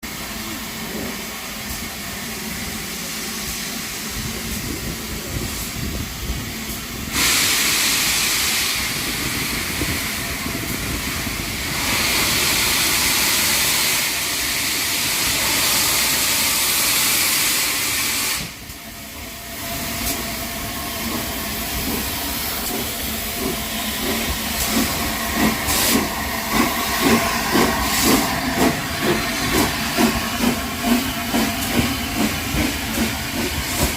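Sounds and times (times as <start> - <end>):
steam hissing: 0.0 - 33.9
steam locomotive exhaust beats: 0.0 - 33.9.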